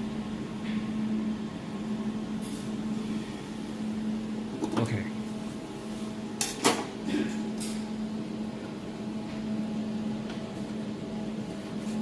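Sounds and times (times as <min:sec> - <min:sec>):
laser welding machine humming: 0:00.0 - 0:12.0.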